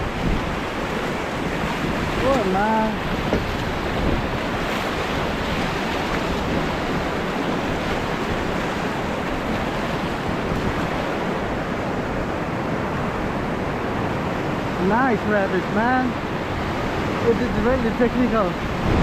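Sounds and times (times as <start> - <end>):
wind noise on microphone: 0.0 - 14.6, 16.3 - 19.0
river whitewater rushing: 0.0 - 19.0.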